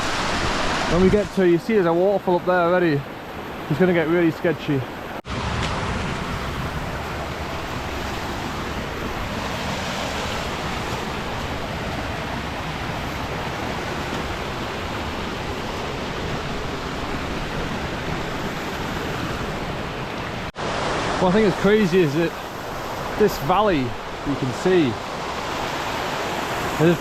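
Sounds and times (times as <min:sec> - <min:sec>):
river water rushing over rocks: 0:00.0 - 0:02.0, 0:04.9 - 0:27.0.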